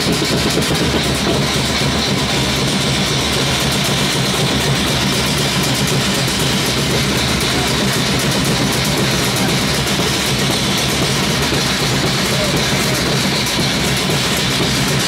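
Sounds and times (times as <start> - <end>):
loud fast drumming: 0.0 - 15.0.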